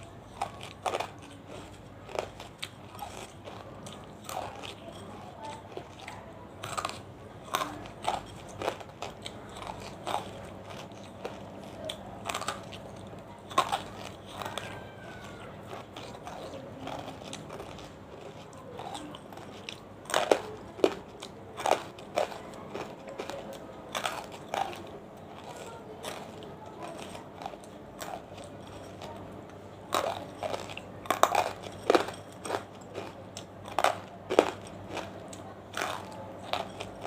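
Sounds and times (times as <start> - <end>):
quiet chewing: 0.0 - 37.0.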